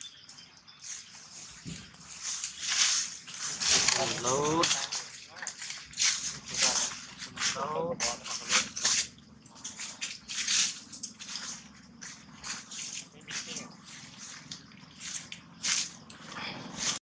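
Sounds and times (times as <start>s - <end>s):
monkeys rustling in dry leaves: 0.8s - 17.0s.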